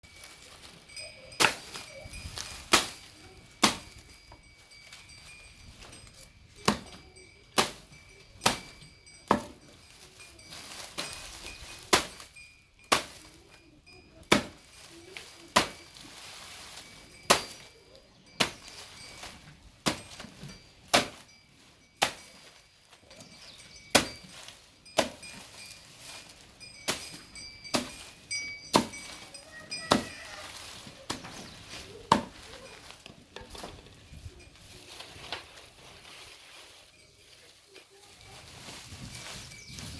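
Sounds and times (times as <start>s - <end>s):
bull tearing grass: 0.0s - 7.0s, 7.6s - 12.4s, 14.4s - 39.9s.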